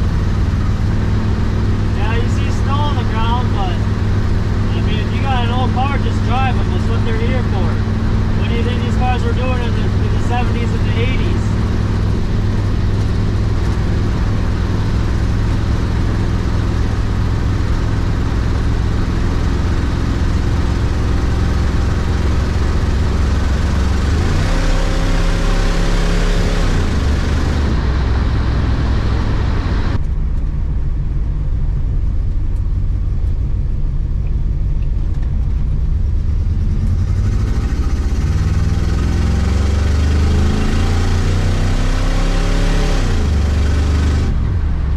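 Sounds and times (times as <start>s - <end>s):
car engine running and revving: 0.0s - 44.9s.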